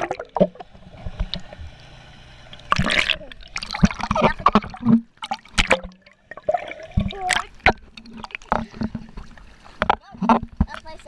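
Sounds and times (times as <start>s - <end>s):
underwater gurgling and splashing: 0.0s - 11.0s.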